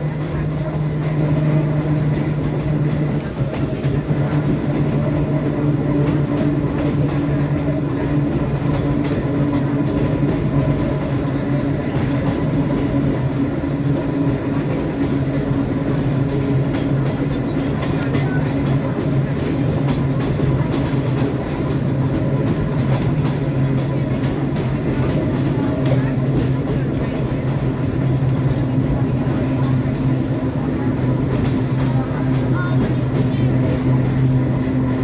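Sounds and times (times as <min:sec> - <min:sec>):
subway train running on rails: 0:00.0 - 0:35.0.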